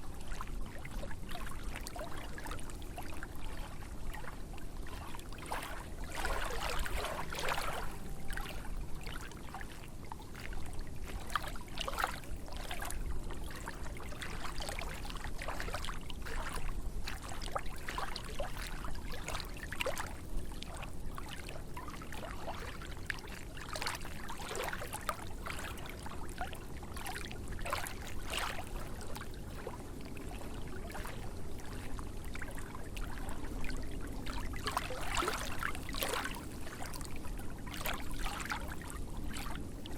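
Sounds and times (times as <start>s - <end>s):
lake waves lapping: 0.3s - 39.9s.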